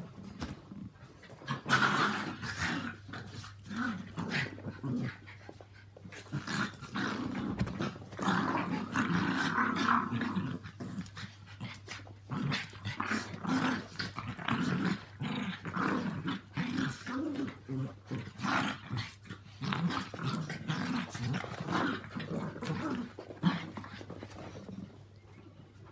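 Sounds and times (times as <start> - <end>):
small dogs growling: 0.2 - 25.0.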